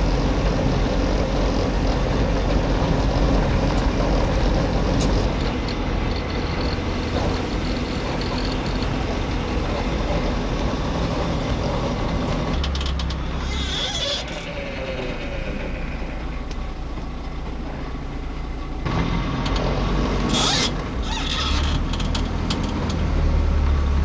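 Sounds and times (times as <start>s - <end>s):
car engine: 0.0s - 24.0s
road rumble: 0.0s - 24.0s.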